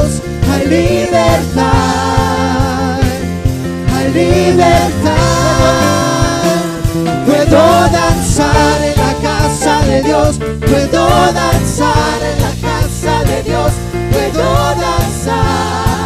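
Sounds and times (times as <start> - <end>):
gospel band playing: 0.0 - 16.0
group of singers singing: 0.0 - 16.0.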